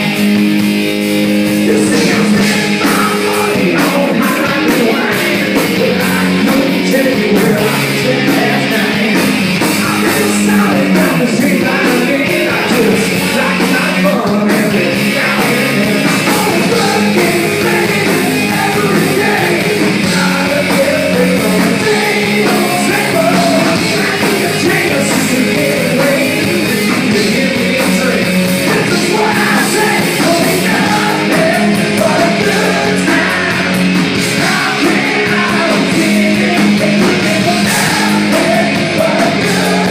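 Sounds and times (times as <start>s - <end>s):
live rock band playing: 0.0s - 39.9s
person singing: 1.6s - 39.9s.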